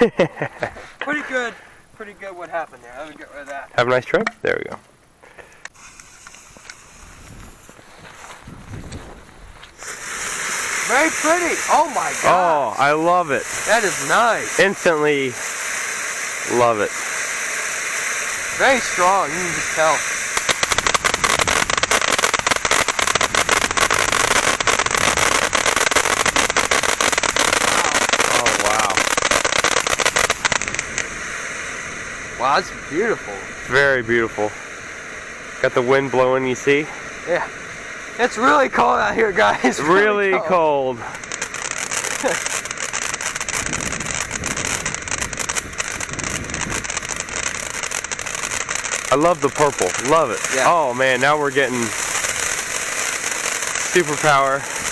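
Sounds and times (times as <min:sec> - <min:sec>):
firework fountain hissing and crackling: 0:00.0 - 0:54.9.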